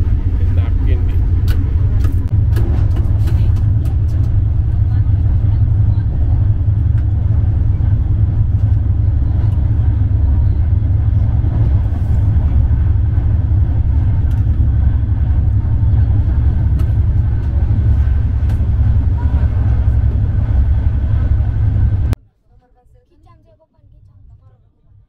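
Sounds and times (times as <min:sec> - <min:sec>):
train wheels rumbling on track: 0:00.0 - 0:22.2.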